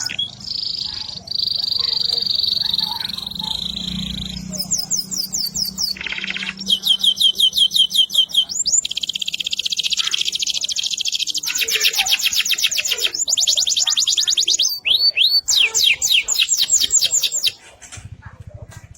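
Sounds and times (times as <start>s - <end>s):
canary singing trills: 0.0s - 17.7s.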